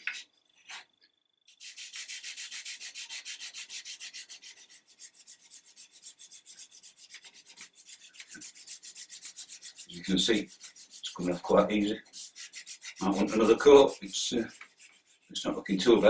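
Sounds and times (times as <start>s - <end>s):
abrasive pad scrubbing wood: 1.5s - 16.0s.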